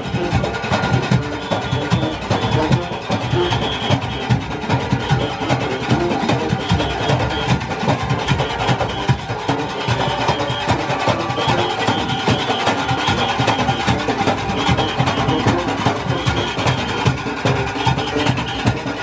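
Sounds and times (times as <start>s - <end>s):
brass horns and saxophone: 0.0s - 19.0s
hand-beaten drums: 0.0s - 19.0s.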